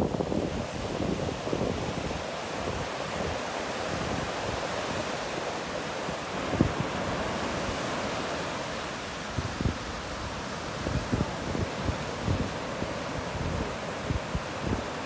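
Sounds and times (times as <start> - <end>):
wind buffeting microphone: 0.0 - 5.5, 6.1 - 15.0
surf washing on a beach: 0.0 - 15.0.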